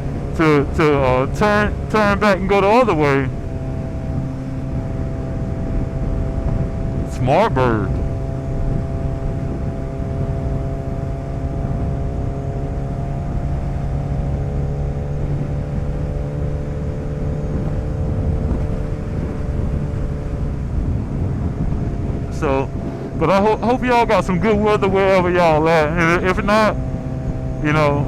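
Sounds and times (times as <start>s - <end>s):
motorcycle engine cruising: 0.0s - 28.0s
wind and road rush: 0.0s - 28.0s.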